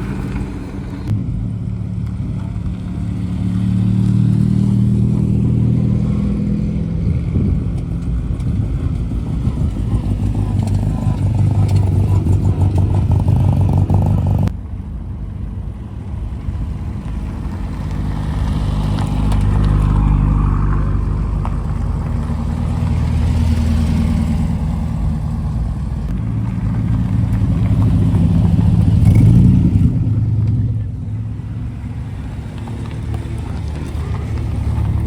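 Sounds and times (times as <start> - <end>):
car engines rumbling: 0.0 - 35.0.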